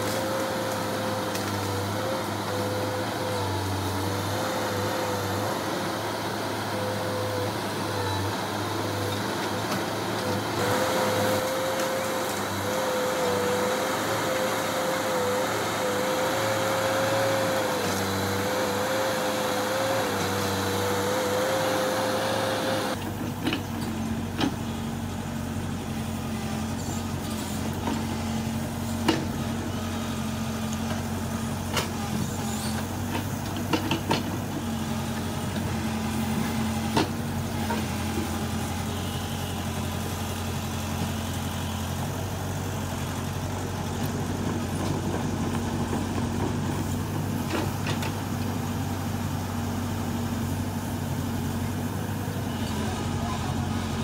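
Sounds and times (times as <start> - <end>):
heavy machinery diesel engine: 0.0 - 54.0.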